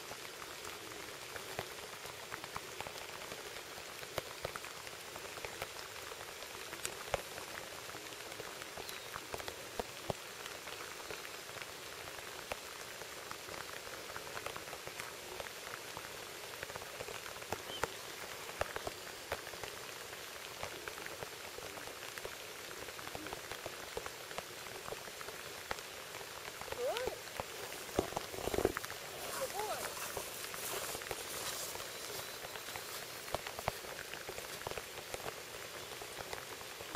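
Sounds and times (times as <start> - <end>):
rain falling on a pond: 0.0 - 36.9.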